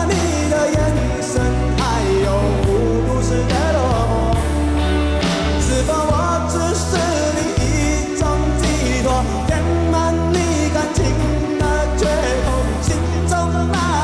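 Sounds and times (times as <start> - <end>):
man singing: 0.0 - 14.0
pop-rock band playing: 0.0 - 14.0.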